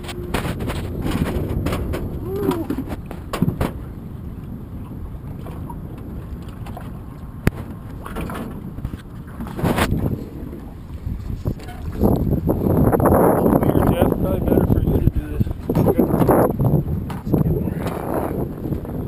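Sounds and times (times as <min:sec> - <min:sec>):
choppy water around boat: 0:00.0 - 0:19.0
wind: 0:00.0 - 0:19.0.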